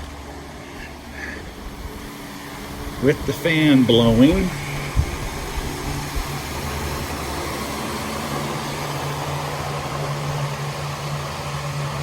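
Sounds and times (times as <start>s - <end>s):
electric fan motor hum: 0.0s - 12.0s
fan air rushing: 0.0s - 12.0s.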